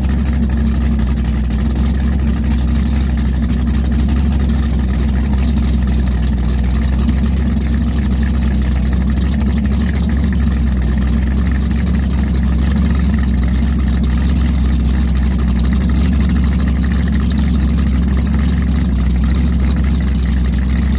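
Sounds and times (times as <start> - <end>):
boat engine idling: 0.0 - 20.9.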